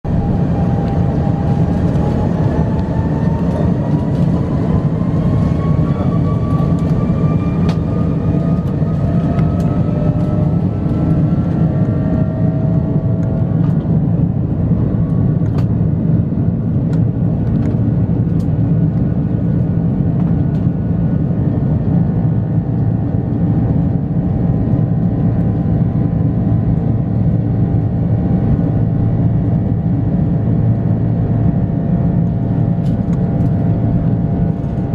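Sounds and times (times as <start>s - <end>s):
jet engine whine: 0.0s - 34.9s
jet engines rumbling: 0.1s - 34.9s.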